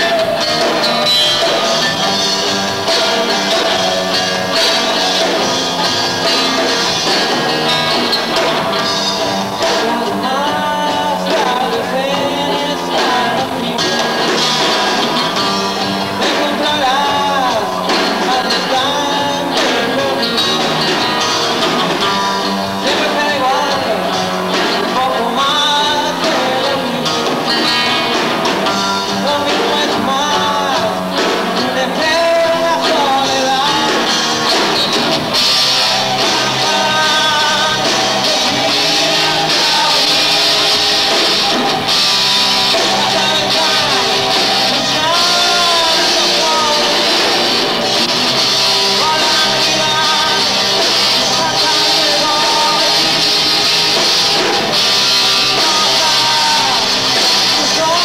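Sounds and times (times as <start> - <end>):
man singing: 0.0 - 28.4, 29.0 - 58.0
rock band playing: 0.0 - 58.0.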